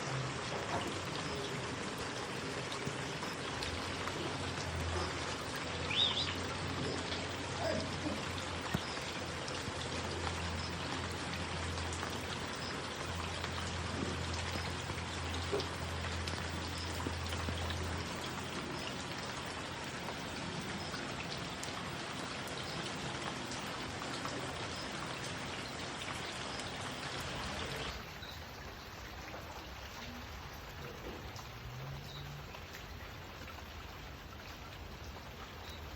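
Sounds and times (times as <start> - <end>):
rain pattering: 0.0 - 35.9.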